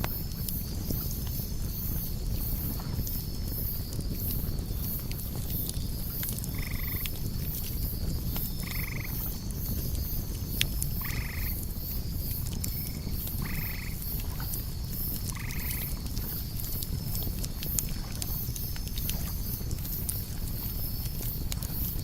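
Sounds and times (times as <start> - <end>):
campfire crackles: 0.0 - 22.0
insects chirring: 0.0 - 22.0.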